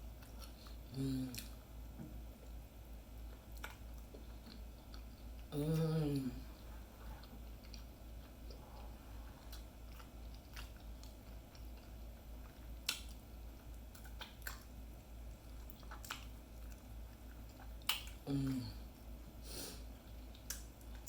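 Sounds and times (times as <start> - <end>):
person chewing: 0.1 - 1.6, 2.4 - 19.2, 19.8 - 21.0.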